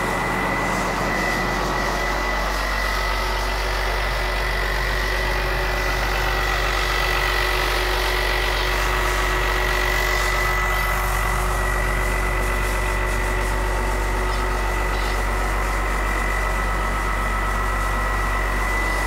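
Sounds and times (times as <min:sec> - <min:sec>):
diesel engine idling: 0:00.0 - 0:19.0
thin steady whine: 0:00.0 - 0:19.0.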